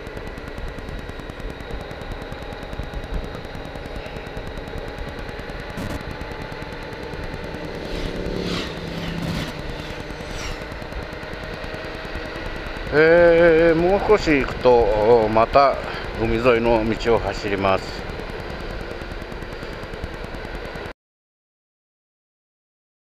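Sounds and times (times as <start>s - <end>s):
motorcycle engine cruising: 0.0s - 20.9s.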